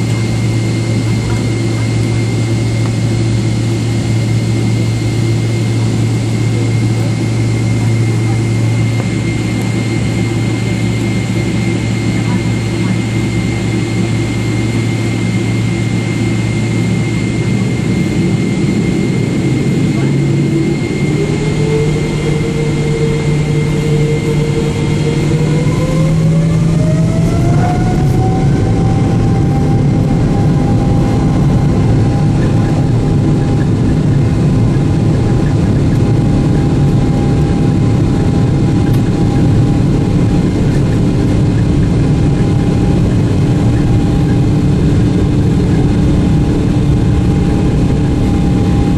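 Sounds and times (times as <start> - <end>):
low engine rumble: 0.0 - 48.9
rising jet engine whine: 0.0 - 48.9.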